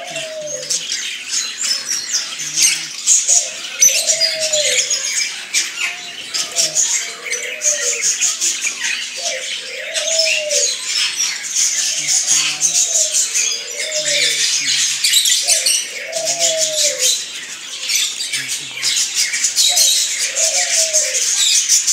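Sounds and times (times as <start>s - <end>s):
rising and falling bird call: 0.0s - 21.9s
small birds chirping: 0.0s - 21.9s.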